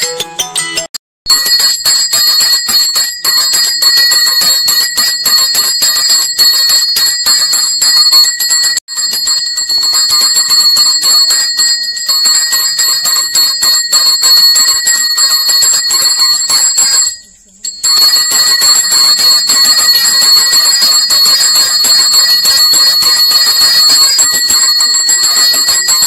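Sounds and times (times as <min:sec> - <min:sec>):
temple bell clanging rapidly: 0:01.3 - 0:26.0.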